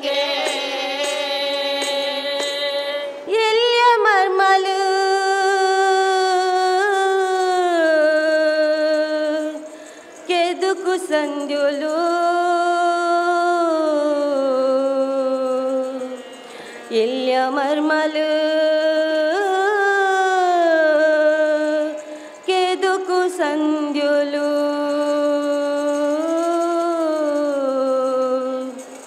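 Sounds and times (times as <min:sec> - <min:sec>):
woman singing slow song: 0:00.0 - 0:29.0.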